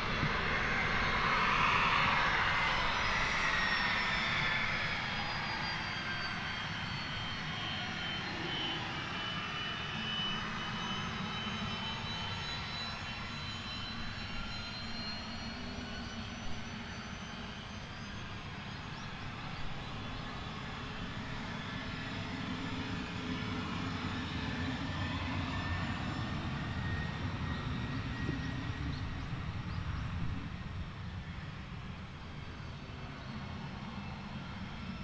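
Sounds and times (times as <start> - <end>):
jet engines whining at low power: 0.0 - 35.0.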